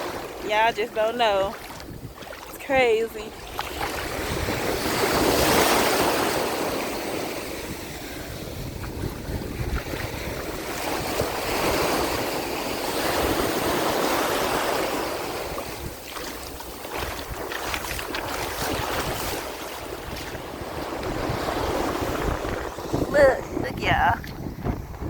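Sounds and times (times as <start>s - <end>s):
sea waves washing on beach: 0.0s - 25.0s
wind on microphone: 0.0s - 25.0s.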